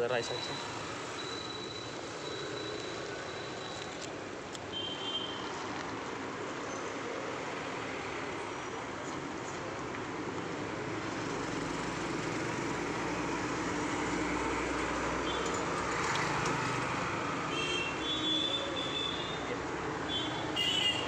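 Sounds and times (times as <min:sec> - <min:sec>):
vehicle traffic noise: 0:00.0 - 0:21.0.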